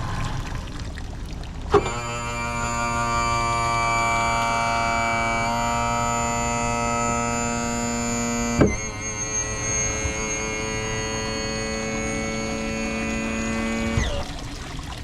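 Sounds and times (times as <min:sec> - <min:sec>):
sustained synthesizer chords: 0:01.9 - 0:14.2.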